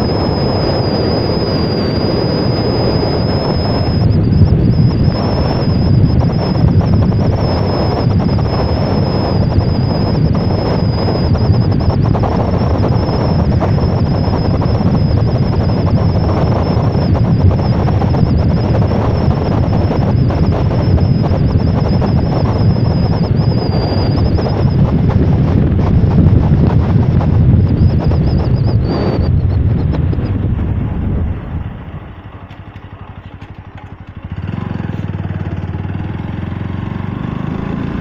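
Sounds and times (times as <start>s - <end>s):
high steady whine: 0.0s - 36.6s
road noise from moving vehicle: 0.0s - 38.0s
wind rushing over microphone: 0.0s - 38.0s.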